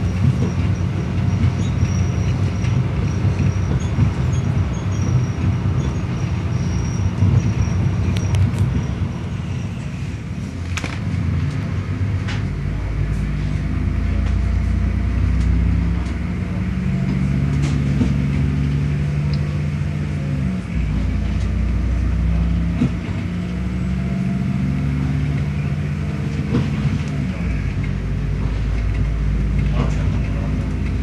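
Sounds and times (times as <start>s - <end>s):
train low drone: 0.0s - 31.0s.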